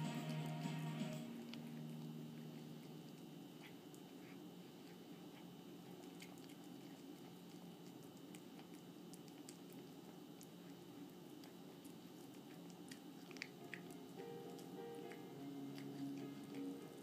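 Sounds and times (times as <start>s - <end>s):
cat lapping liquid: 1.4s - 17.0s.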